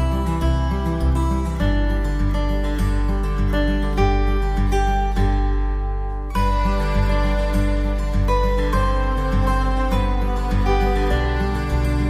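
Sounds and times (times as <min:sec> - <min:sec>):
plucked guitar music with bass: 0:00.0 - 0:12.0.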